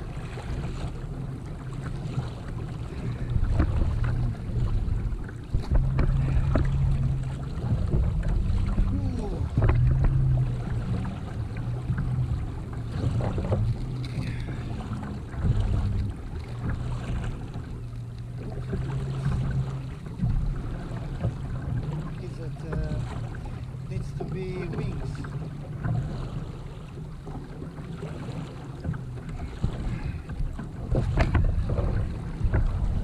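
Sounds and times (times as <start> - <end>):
wind buffeting microphone: 0.0 - 26.3, 28.8 - 33.0
water noise around kayak: 0.0 - 33.0.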